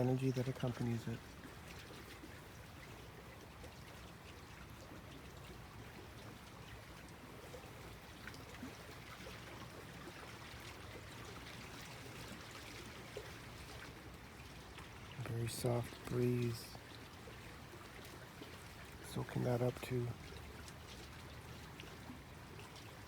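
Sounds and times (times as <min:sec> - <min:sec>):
faint water splashes: 0:00.0 - 0:23.0
small waves lapping: 0:00.0 - 0:23.0.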